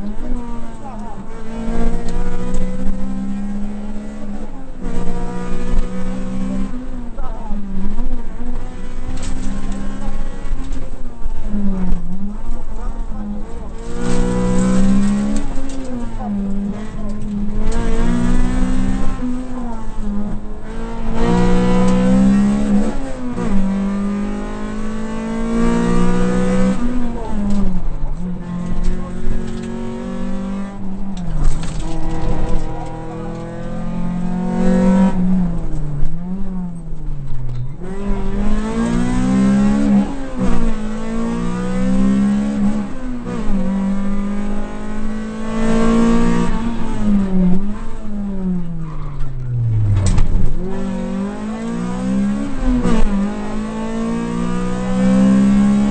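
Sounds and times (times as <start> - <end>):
rally car engine revving: 0.0 - 55.9.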